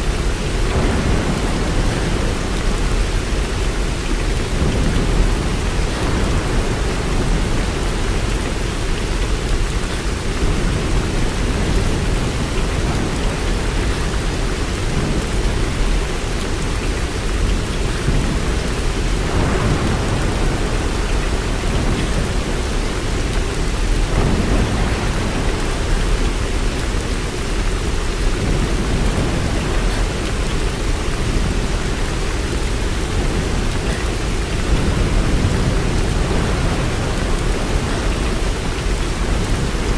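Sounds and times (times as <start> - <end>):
low rumble of thunder: 0.0 - 39.9
steady rain: 0.0 - 39.9.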